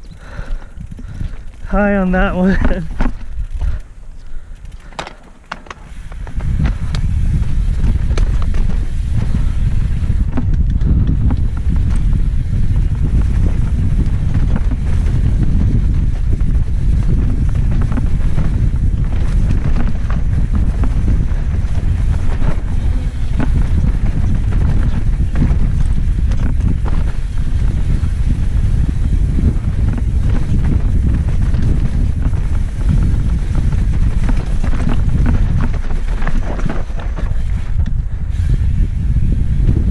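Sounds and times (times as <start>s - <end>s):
bike rattling over rocks: 0.0s - 39.9s
wind buffeting microphone: 0.0s - 39.9s.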